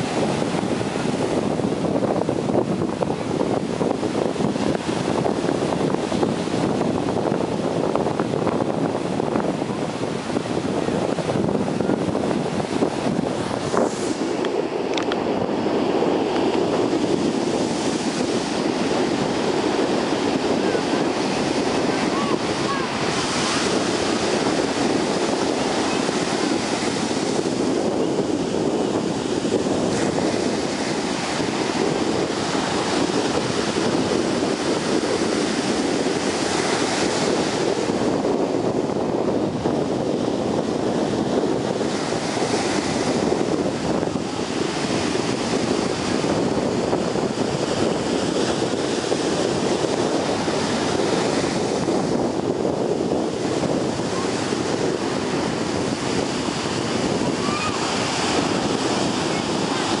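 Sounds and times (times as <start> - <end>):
ocean surf breaking: 0.0 - 60.0.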